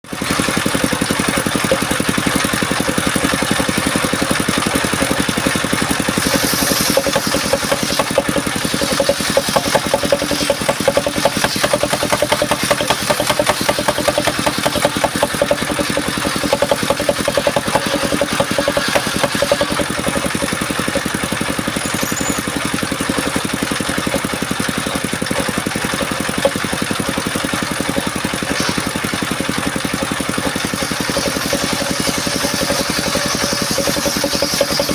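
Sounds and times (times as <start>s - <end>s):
sawmill engine running: 0.1s - 34.9s.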